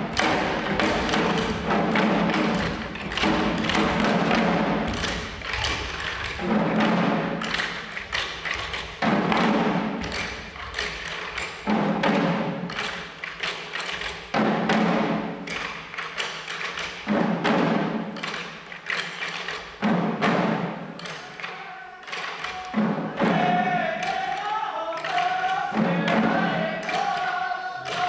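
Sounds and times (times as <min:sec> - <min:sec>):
drums beaten in steady rhythm: 0:00.0 - 0:28.0.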